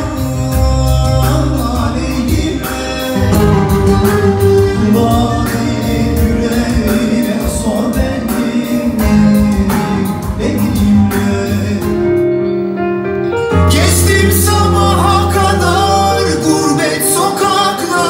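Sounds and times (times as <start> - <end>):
band music with steady beat: 0.0 - 18.0.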